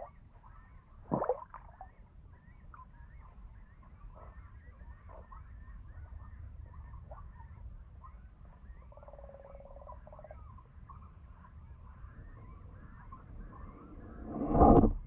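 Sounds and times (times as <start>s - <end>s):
muffled water rumble: 0.0s - 15.0s
faint chirps: 1.9s - 14.8s.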